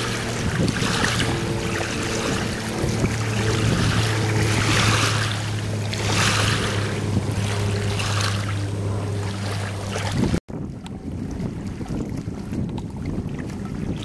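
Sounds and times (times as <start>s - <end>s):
low motor hum: 0.0s - 14.0s
small waves lapping at shore: 0.0s - 14.0s.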